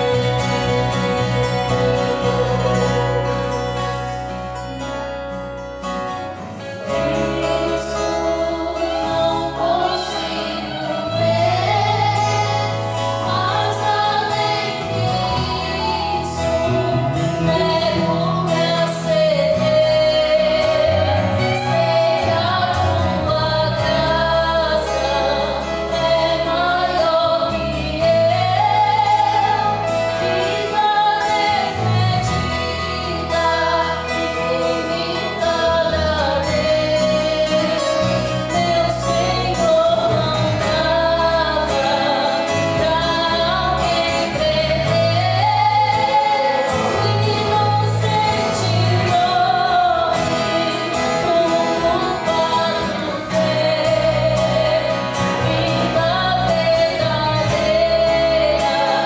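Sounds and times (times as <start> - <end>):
woman singing into a microphone: 0.0 - 4.7, 6.6 - 59.0
electric bass guitar notes: 0.0 - 59.0
strummed acoustic guitar: 0.0 - 59.0.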